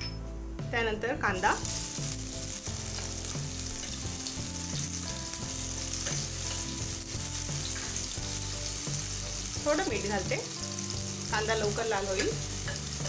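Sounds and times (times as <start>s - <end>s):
background music of held notes: 0.0s - 13.0s
onion sizzling in oil: 1.3s - 13.0s.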